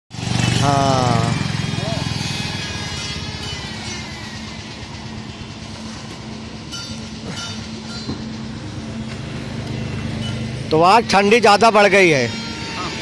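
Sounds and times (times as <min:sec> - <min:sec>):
low engine drone: 0:00.1 - 0:13.0.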